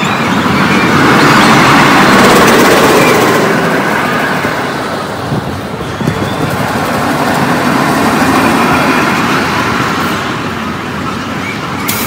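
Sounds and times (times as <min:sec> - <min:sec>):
roller coaster train on track: 0:00.0 - 0:12.0.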